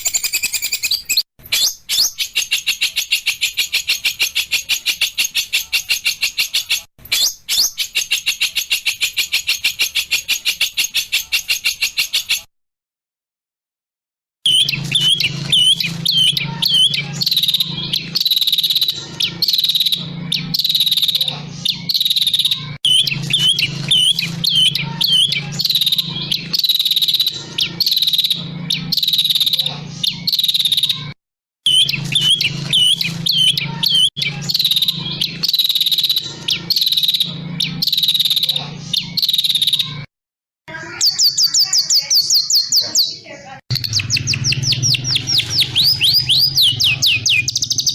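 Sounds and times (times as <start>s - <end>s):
bird high rapid trill: 0.0s - 12.5s, 14.5s - 40.1s, 40.8s - 47.9s
songbird chirps and whistles: 0.0s - 12.5s, 14.5s - 40.1s, 40.9s - 47.9s.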